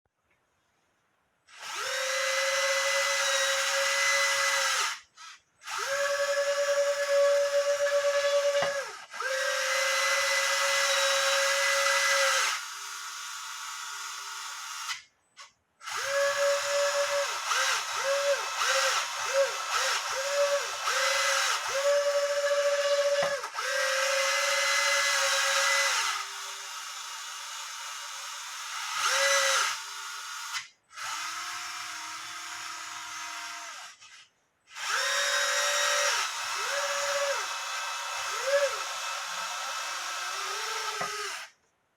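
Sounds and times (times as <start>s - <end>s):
small electric gear motors whining: 1.6s - 13.7s, 15.8s - 41.6s.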